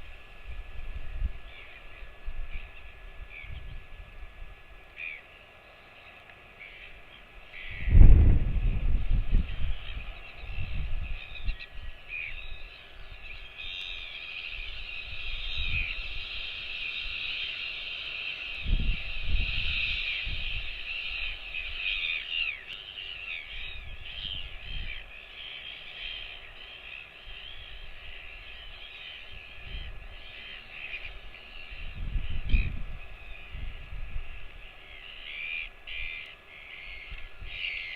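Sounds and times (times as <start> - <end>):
chorus of bird chirps: 1.2 - 4.1, 4.8 - 37.9.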